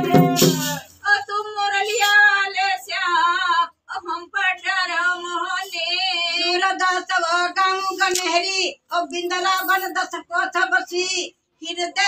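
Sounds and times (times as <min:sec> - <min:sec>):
woman singing folk song: 0:01.0 - 0:12.0.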